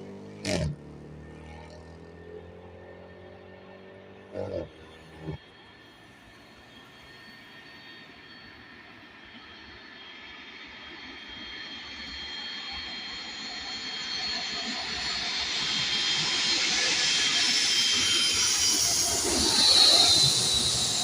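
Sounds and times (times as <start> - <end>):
airplane engines whining: 0.0 - 21.0.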